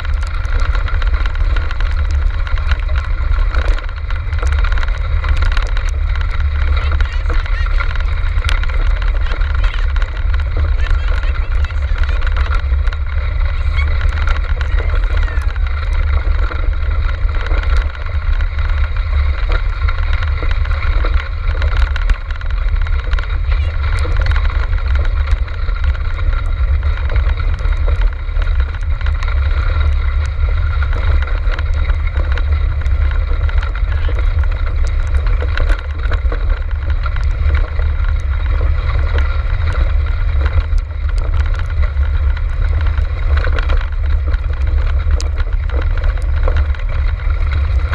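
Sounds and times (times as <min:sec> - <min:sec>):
rumble of cart wheels: 0:00.0 - 0:47.9
small rattles and clicks: 0:00.0 - 0:47.9
wind on microphone: 0:00.0 - 0:47.9.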